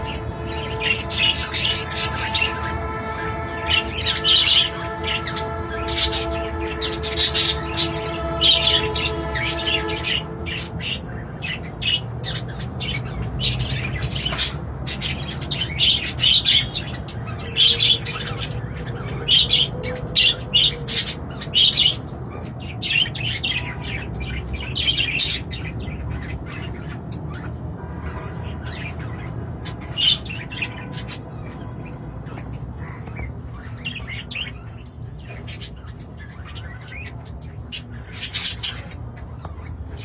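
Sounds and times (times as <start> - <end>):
parrots chirping and squawking: 0.0 - 40.0.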